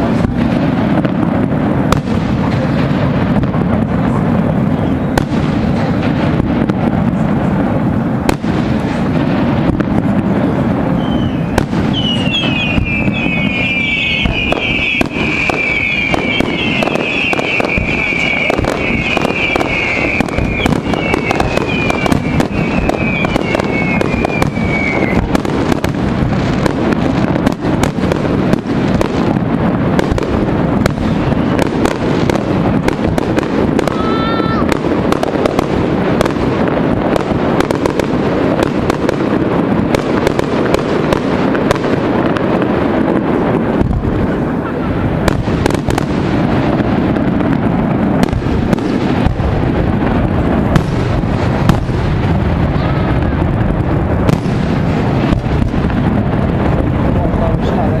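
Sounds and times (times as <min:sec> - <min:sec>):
fireworks bursting and crackling: 0:00.0 - 0:58.0
whistling fireworks: 0:00.0 - 0:58.0.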